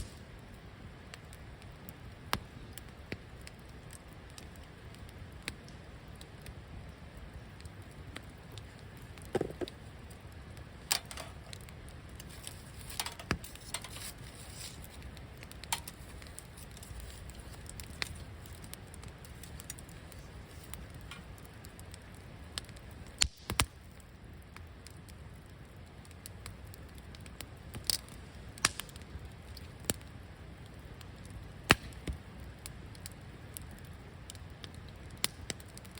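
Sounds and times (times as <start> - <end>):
campfire crackling: 0.0 - 35.9.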